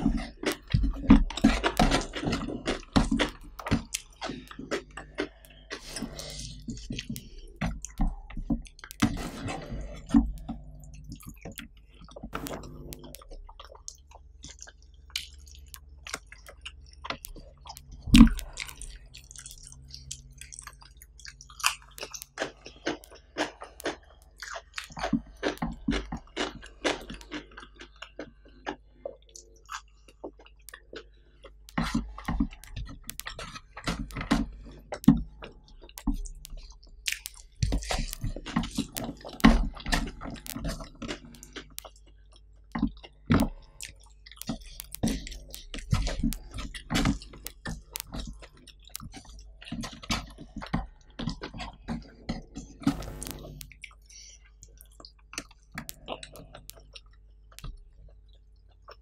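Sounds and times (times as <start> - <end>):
chewing and lip smacks: 0.0 - 59.0.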